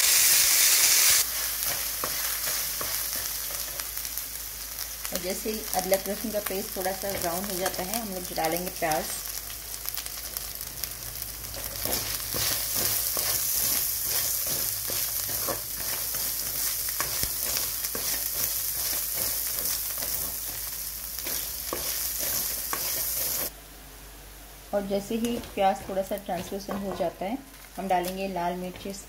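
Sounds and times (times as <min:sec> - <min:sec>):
onion sizzling in hot oil: 0:00.0 - 0:23.6, 0:24.5 - 0:29.0.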